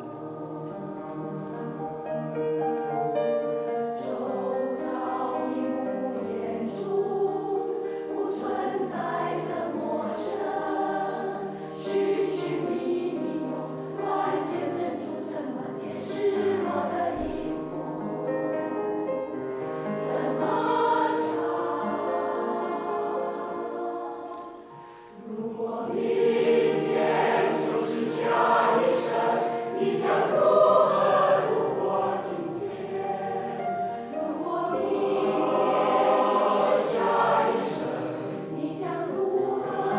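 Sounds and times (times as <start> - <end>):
choir singing slow song: 0.0 - 39.9.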